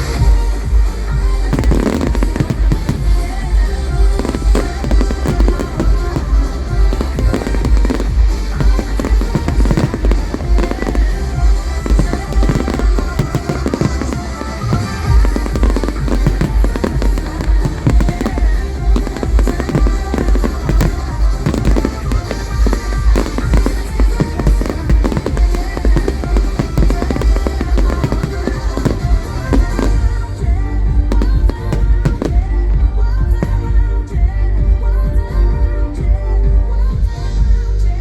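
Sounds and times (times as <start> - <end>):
fireworks bangs and crackles: 0.0 - 34.4
loud music with heavy bass: 0.0 - 38.0.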